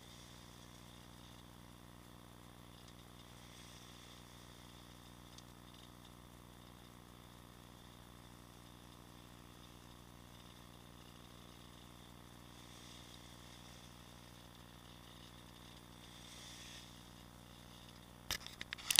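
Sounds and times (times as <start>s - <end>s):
faint hiss: 0.0s - 18.4s
low hum: 0.0s - 18.9s.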